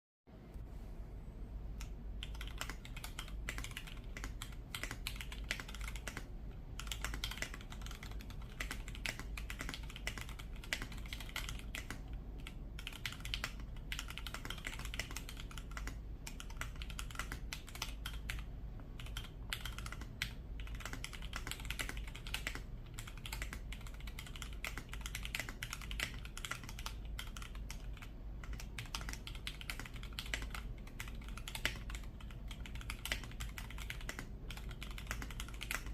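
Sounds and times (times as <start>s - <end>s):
fast mechanical keyboard typing: 1.8s - 35.9s.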